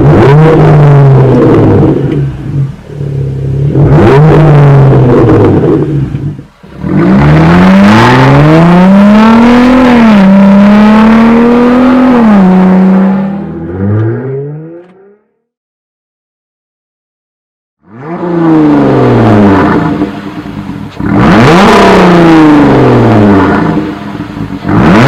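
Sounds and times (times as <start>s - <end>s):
car engine revving: 0.0s - 15.5s, 17.8s - 25.0s.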